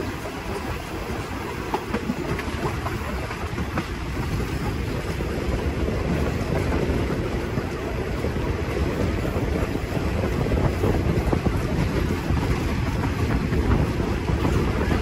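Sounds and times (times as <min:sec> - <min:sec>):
train wheels rumbling on track: 0:00.0 - 0:15.0
wind on microphone: 0:00.0 - 0:15.0.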